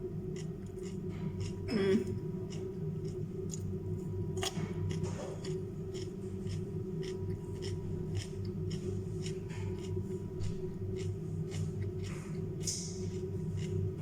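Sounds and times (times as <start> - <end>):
low hum: 0.0 - 14.0
chewing crunchy vegetables: 0.1 - 14.0.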